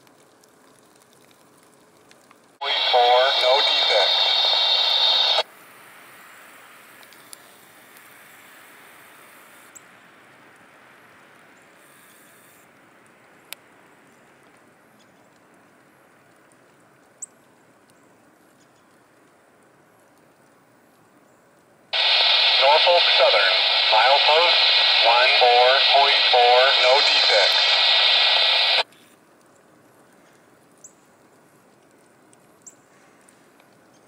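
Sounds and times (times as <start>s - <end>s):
faint outdoor hiss: 0.0s - 34.0s.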